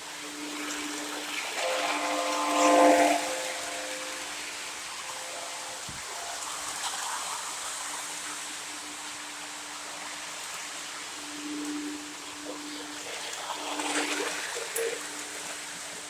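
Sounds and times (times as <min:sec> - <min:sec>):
steady hum: 0:00.0 - 0:13.0
model train running on track: 0:00.0 - 0:16.0.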